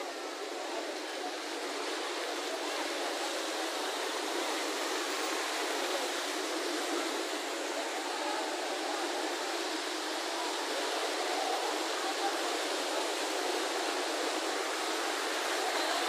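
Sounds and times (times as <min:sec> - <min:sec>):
fountain jets splashing into pool: 0:00.0 - 0:16.0.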